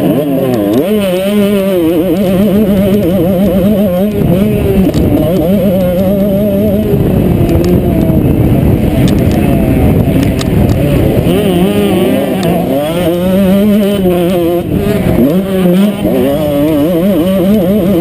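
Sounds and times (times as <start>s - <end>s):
motocross bike engine revving: 0.0s - 18.0s
wind rush on microphone: 0.0s - 18.0s.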